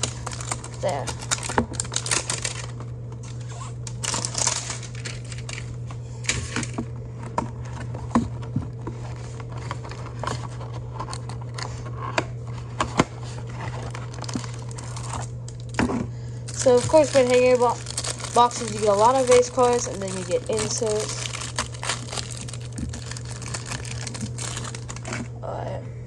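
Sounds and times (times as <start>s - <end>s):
cardboard and plastic crinkling: 0.0s - 25.3s
low hum: 0.0s - 26.0s.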